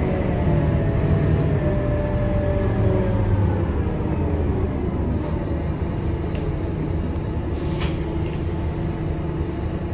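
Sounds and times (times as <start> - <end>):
bus diesel engine running: 0.0 - 9.9.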